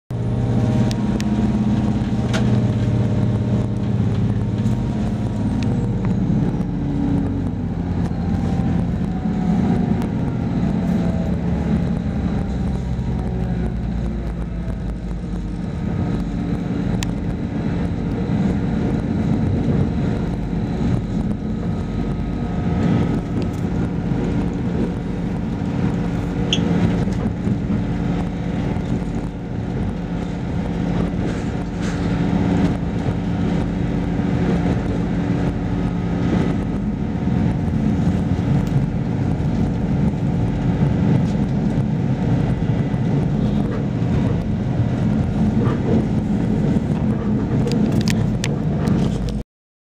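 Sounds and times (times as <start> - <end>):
low even drone: 0.1 - 49.4
train wheels rumbling on track: 0.1 - 49.4.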